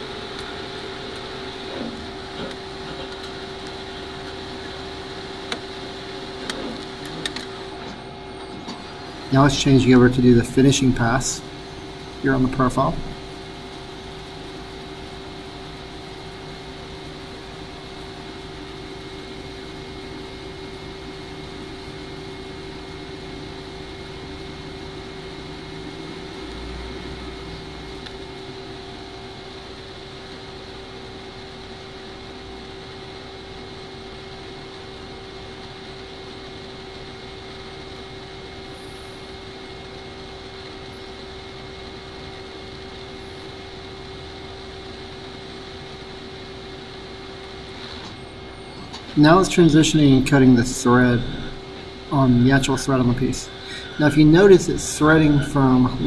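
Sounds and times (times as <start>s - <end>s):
lathe machine hum: 0.0s - 56.0s.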